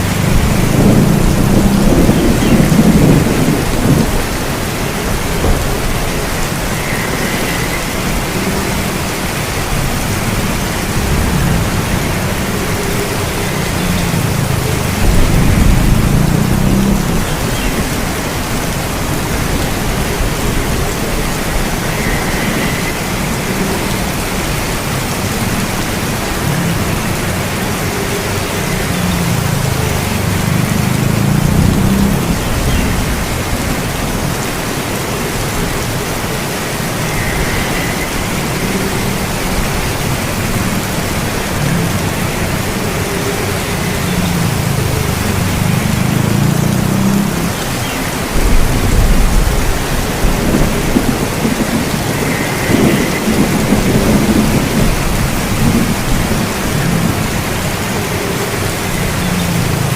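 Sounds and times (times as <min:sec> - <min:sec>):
heavy rain falling: 0:00.0 - 0:59.9
thunder rumbling: 0:00.0 - 0:59.9.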